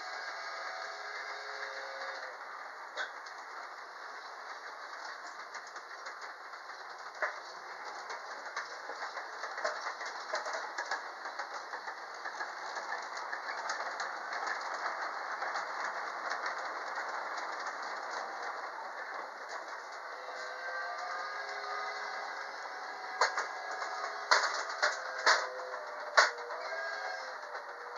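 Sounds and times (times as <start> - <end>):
model train motors whirring: 0.0 - 27.9
wheels clicking over rail joints: 0.0 - 27.9.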